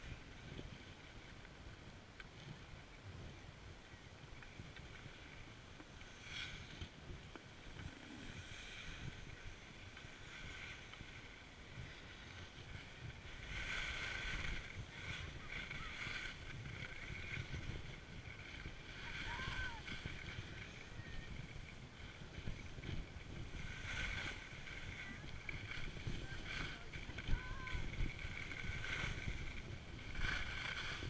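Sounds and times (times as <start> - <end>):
skis scraping over snow: 0.0 - 31.0
wind rumbling on microphone: 0.0 - 31.0.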